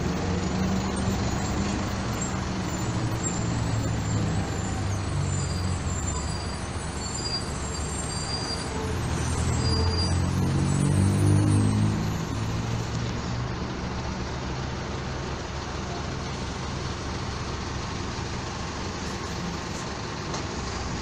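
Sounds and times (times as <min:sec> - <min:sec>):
bus engine passing by: 0:00.0 - 0:21.0
bus pulling away: 0:00.0 - 0:21.0.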